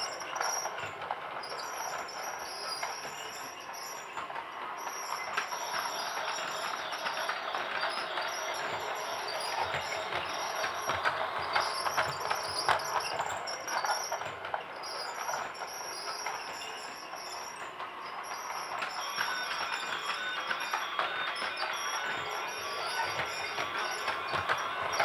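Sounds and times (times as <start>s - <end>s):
toy train clattering: 0.0s - 25.0s.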